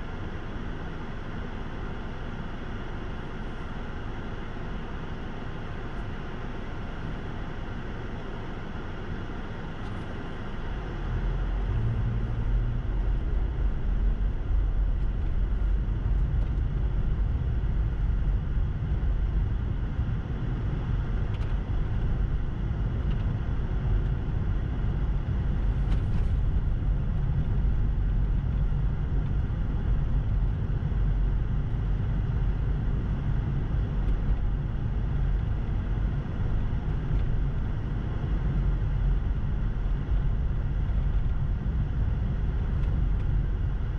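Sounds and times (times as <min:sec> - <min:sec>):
car driving on snow: 0:00.0 - 0:43.9.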